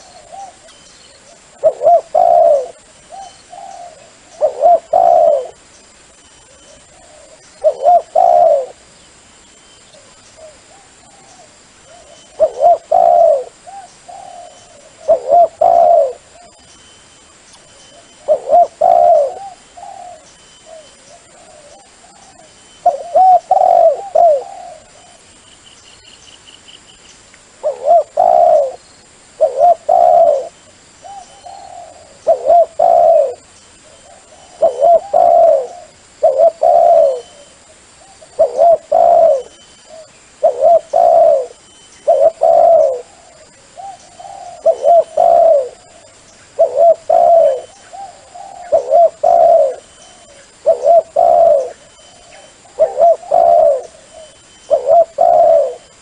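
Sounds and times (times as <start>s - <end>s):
dove cooing: 0.0s - 5.6s, 6.4s - 8.9s, 10.0s - 16.6s, 17.9s - 25.3s, 27.6s - 56.0s.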